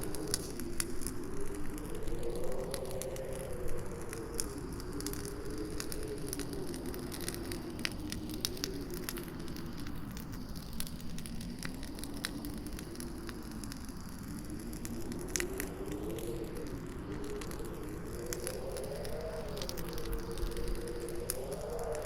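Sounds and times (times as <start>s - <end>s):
campfire crackling and popping: 0.0s - 22.0s
wind howling whistle: 0.0s - 22.0s.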